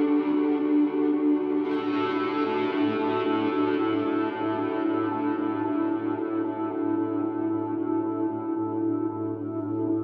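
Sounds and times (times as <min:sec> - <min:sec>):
ambient electric guitar chords: 0:00.0 - 0:10.0.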